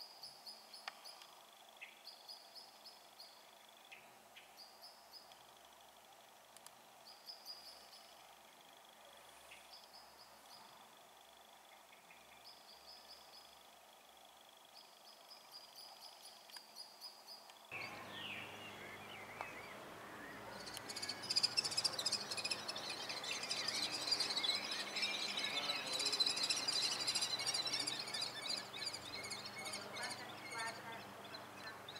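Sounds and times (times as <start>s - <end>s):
birds chirping and twittering: 0.0s - 5.7s, 7.0s - 31.9s
outdoor background hum: 0.0s - 31.9s.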